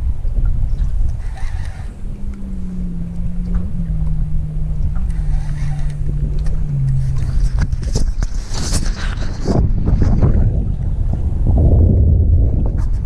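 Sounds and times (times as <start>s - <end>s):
boat motor humming: 0.0s - 12.8s
wind rumble on microphone: 0.0s - 13.0s.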